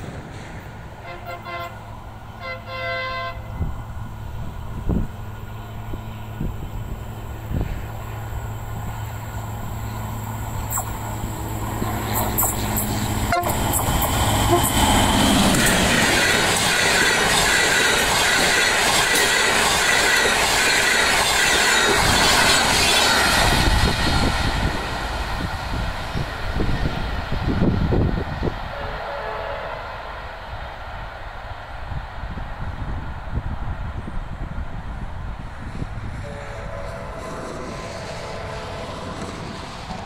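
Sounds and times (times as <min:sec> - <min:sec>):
diesel locomotive passing: 0:00.0 - 0:40.0
train wheels on rails: 0:00.0 - 0:40.0.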